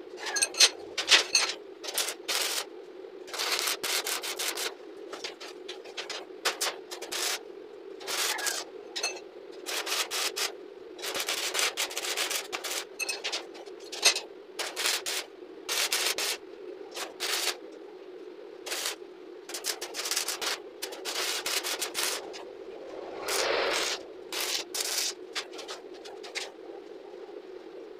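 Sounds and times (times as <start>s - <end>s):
steady hum: 0.0s - 27.9s
welding arc crackling: 1.0s - 2.7s, 3.3s - 7.4s, 8.0s - 8.7s, 9.6s - 17.7s, 18.6s - 26.5s.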